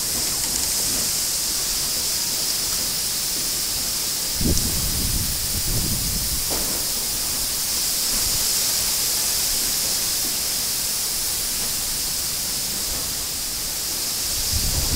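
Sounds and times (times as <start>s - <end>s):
strong wind rushing through trees: 0.0s - 14.9s.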